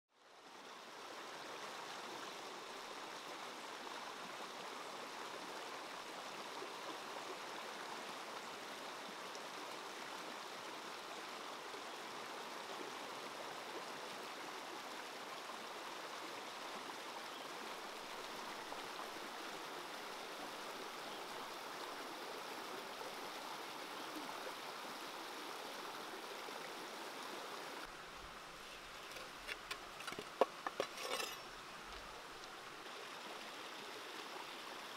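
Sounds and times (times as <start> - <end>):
stream flowing: 0.1 - 34.9.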